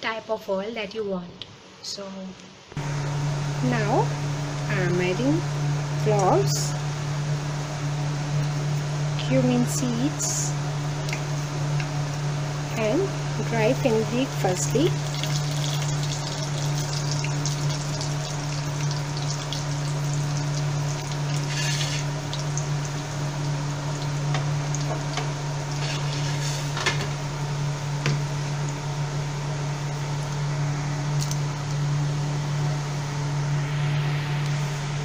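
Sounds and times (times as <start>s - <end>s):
low hum: 2.7s - 35.0s
spices sizzling in hot oil: 2.8s - 31.2s.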